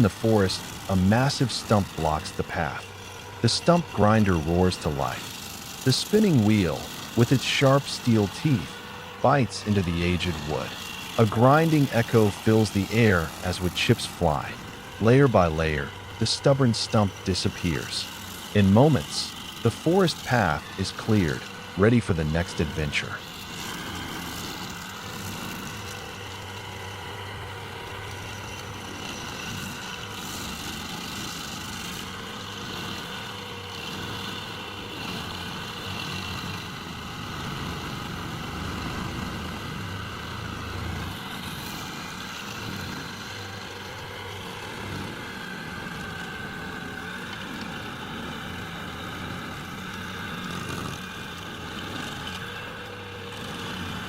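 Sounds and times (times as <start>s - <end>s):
stump grinder running: 0.0s - 54.0s.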